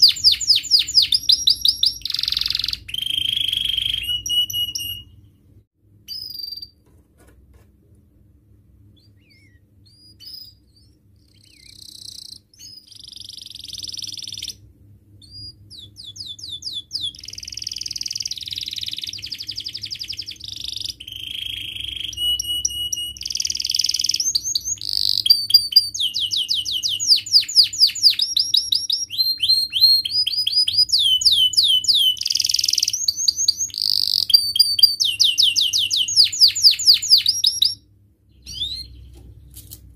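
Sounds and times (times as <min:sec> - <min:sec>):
canary singing trills: 0:00.0 - 0:05.4, 0:08.9 - 0:39.5.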